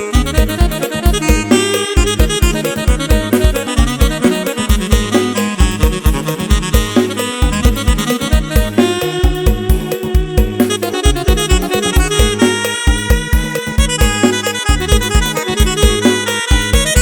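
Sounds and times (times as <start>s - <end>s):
electronic organ dance music: 0.0s - 17.0s
heavy bass line: 0.0s - 17.0s
reedy lead melody: 0.0s - 17.0s.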